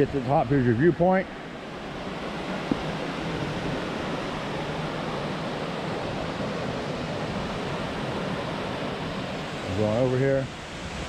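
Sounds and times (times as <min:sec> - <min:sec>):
waterfall rushing: 0:01.3 - 0:11.0.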